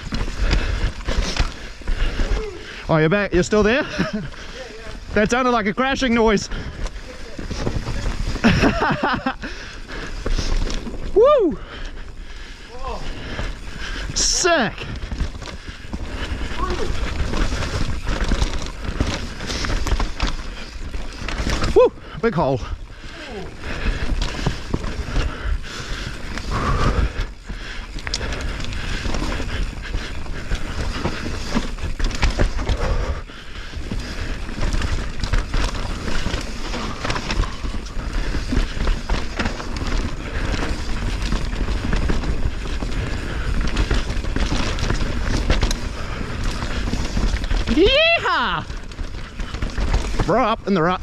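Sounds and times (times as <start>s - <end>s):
bike and chain rattling: 0.0s - 51.0s
tyre noise on dirt: 0.0s - 51.0s.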